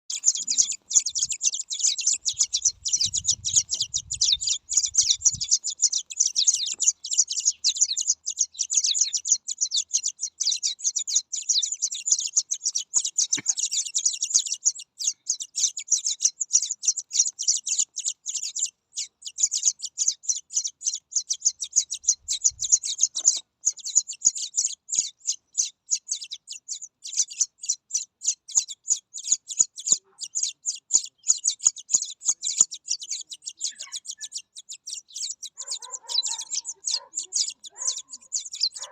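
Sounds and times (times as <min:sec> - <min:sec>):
baby birds peeping: 0:00.1 - 0:38.9.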